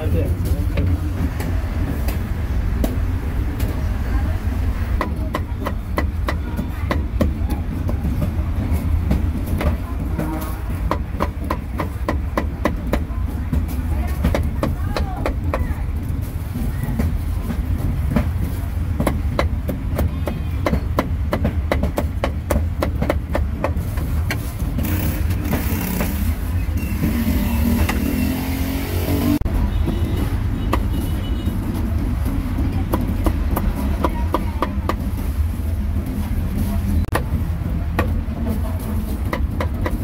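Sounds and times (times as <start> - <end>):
low traffic rumble: 0.0 - 40.0.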